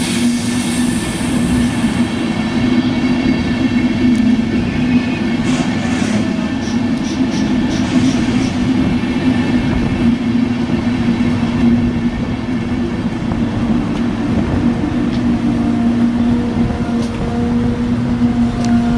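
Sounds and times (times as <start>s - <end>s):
train running with steady drone: 0.0s - 18.9s.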